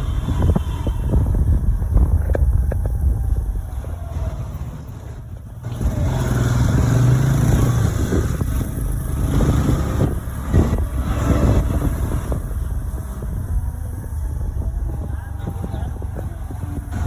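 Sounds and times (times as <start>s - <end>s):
road traffic: 0.0s - 17.0s
scooter engine humming: 0.0s - 17.0s
wind rumble on microphone: 0.0s - 17.0s.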